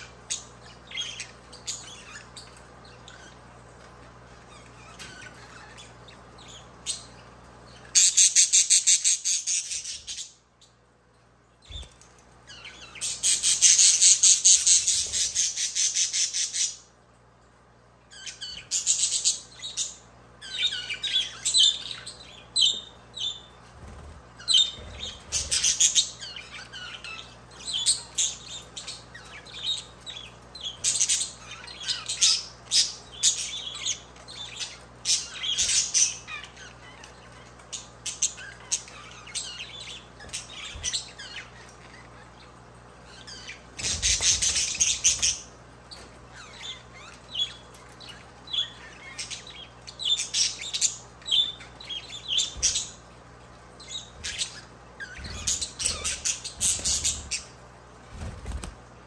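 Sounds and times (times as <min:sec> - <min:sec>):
budgerigars chirping: 0:00.0 - 0:10.8, 0:11.6 - 0:16.9, 0:18.1 - 0:53.1, 0:53.7 - 0:58.7.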